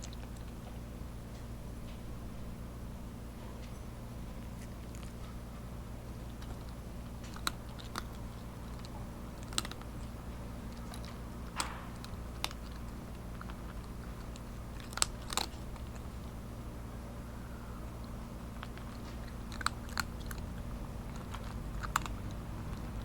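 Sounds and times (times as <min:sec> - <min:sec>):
cat crunching dry kibble: 0:00.0 - 0:02.0, 0:04.3 - 0:23.0
steady low hum: 0:00.0 - 0:23.0.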